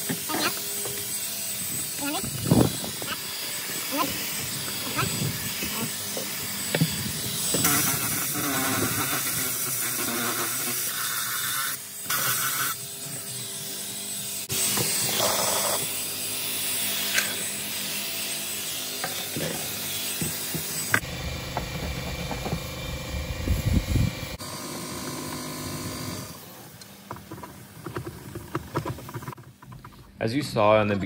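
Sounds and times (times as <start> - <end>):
drill motor whine: 0.0 - 26.8.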